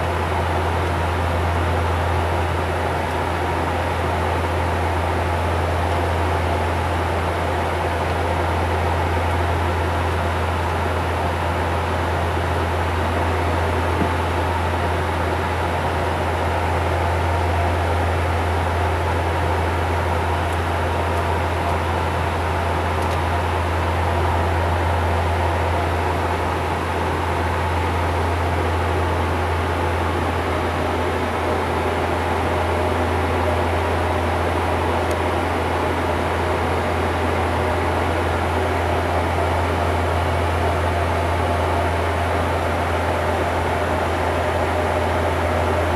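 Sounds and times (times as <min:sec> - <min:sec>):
constant cockpit hiss: 0:00.0 - 0:45.9
propeller drone: 0:00.0 - 0:45.9.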